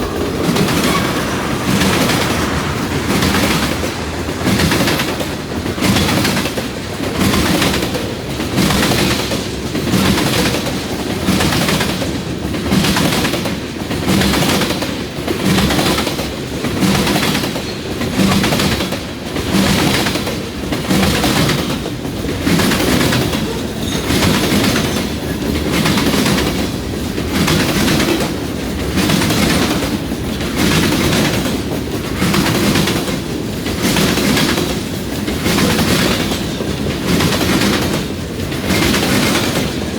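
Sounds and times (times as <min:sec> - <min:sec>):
train wheels clacking over track: 0:00.0 - 0:39.9.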